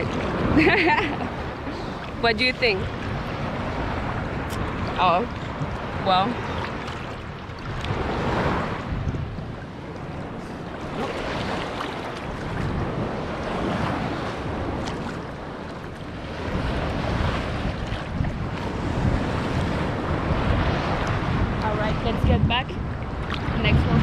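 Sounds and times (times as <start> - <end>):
ocean surf washing onto beach: 0.0 - 24.0
wind buffeting microphone: 0.0 - 24.0.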